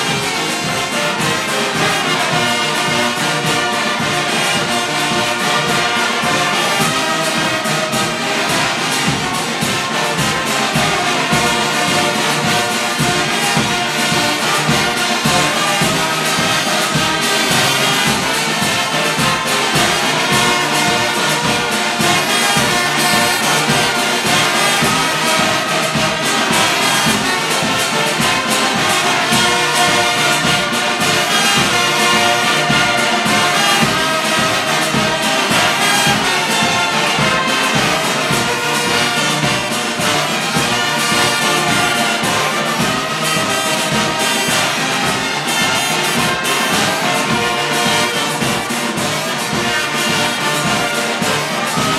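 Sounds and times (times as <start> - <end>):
brass band playing a march: 0.0 - 51.9.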